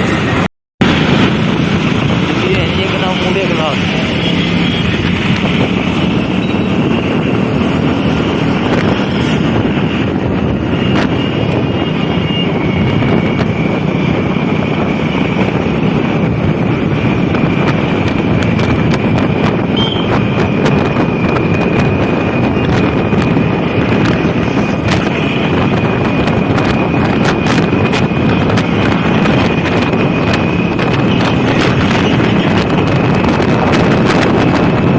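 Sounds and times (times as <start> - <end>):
motorcycle engine running: 0.0 - 34.9
wind on microphone: 0.0 - 34.9.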